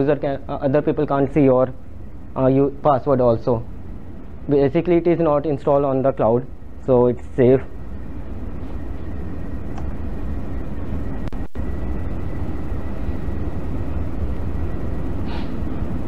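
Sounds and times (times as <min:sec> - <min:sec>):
faint high whine: 0:00.0 - 0:16.0
low rumble and hiss: 0:00.0 - 0:16.0.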